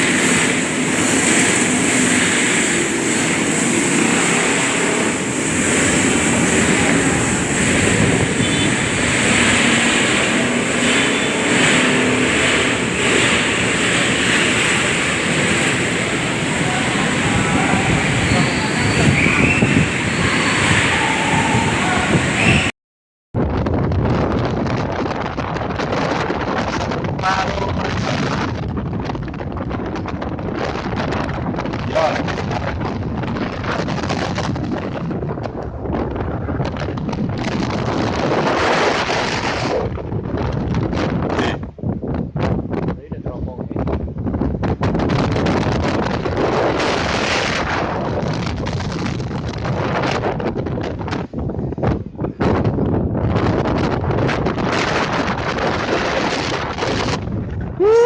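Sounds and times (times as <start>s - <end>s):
wind buffeting microphone: 0.0s - 22.7s, 23.3s - 58.0s.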